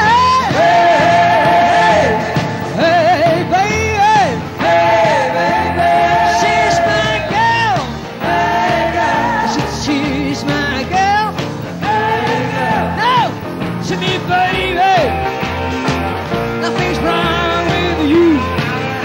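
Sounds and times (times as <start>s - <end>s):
bending lead melody: 0.0s - 19.0s
live rock band playing: 0.0s - 19.0s.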